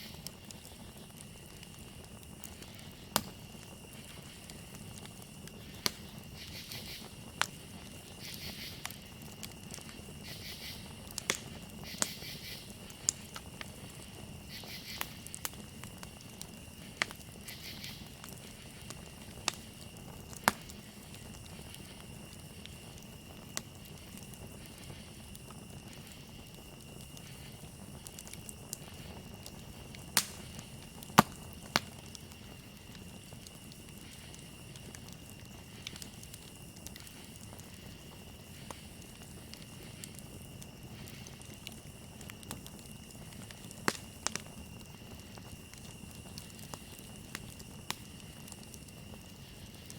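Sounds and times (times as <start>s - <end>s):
campfire crackling: 0.0s - 49.9s
crickets chirping: 0.0s - 49.9s.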